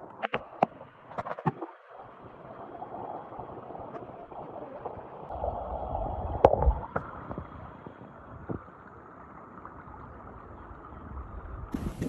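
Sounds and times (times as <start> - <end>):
underwater gurgling and sloshing: 0.0 - 12.0.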